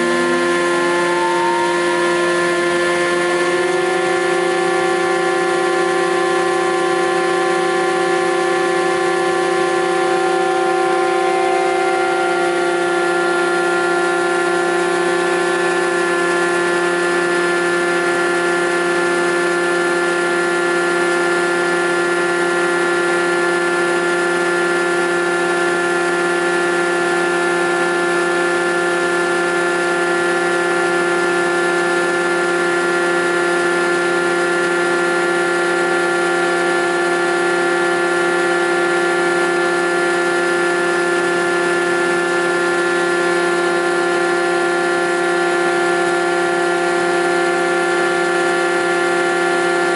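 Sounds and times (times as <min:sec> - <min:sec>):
planer machine humming: 0:00.0 - 0:49.9.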